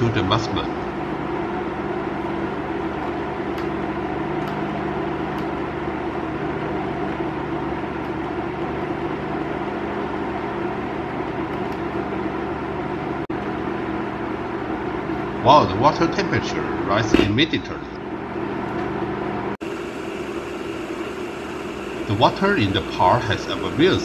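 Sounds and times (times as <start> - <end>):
induction cooker hum and whir: 0.0 - 24.0.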